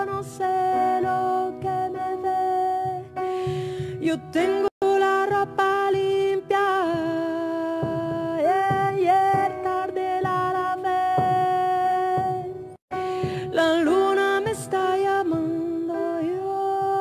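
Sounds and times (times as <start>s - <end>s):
woman singing wordless notes: 0.0s - 17.0s.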